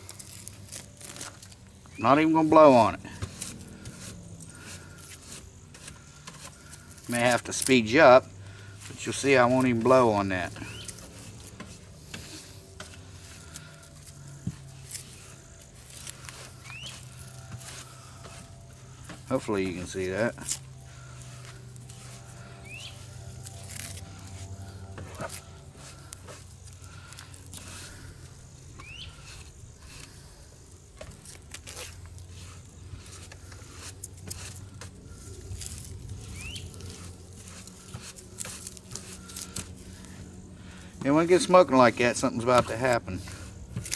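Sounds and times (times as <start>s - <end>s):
kindling crackling: 0.0s - 43.9s
low hum: 2.9s - 43.9s.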